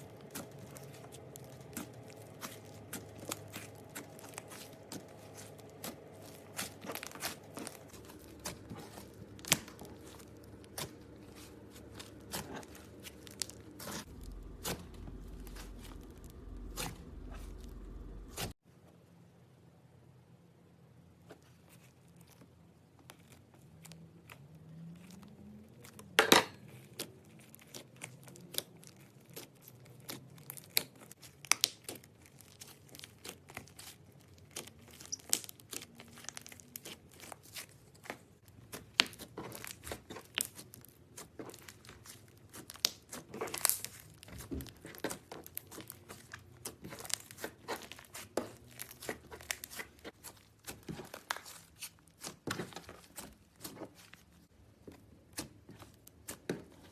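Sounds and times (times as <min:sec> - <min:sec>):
slime clicking and crackling: 0:00.0 - 0:18.5, 0:21.8 - 0:56.9.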